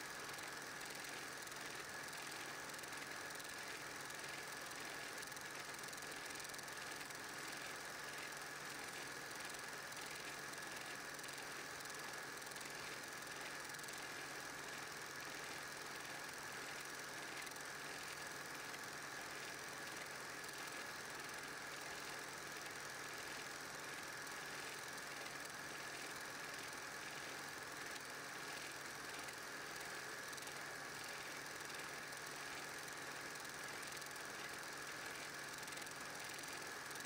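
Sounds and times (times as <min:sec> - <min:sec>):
projector mechanical clatter: 0:00.0 - 0:37.0
projector motor hum: 0:00.0 - 0:37.0.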